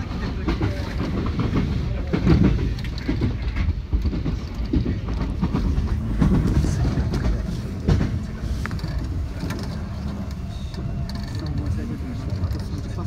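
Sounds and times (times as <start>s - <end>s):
train running rumble: 0.0s - 13.0s
wheels clicking over rail joints: 0.0s - 13.0s.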